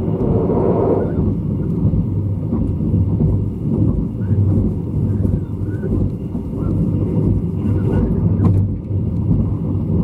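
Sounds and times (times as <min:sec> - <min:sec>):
low hum: 0:00.0 - 0:10.0
train wheels rumbling on rails: 0:00.0 - 0:10.0.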